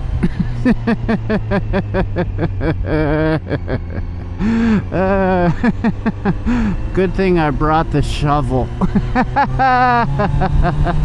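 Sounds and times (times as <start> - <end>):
low engine drone: 0.0 - 11.0
man laughing: 0.1 - 11.0.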